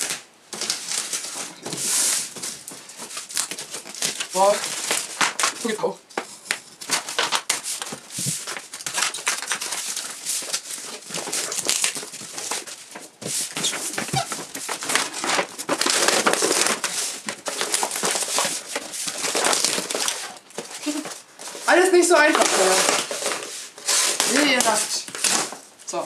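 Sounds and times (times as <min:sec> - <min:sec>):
paper rustling and crinkling: 0:00.0 - 0:26.0.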